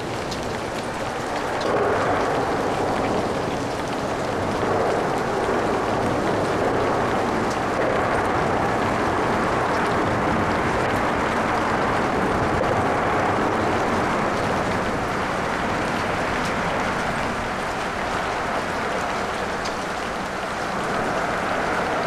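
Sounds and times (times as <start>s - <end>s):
faint raindrop ticks: 0.0s - 22.0s
steady rain: 0.0s - 22.0s
traffic hiss on wet roads: 0.0s - 22.0s.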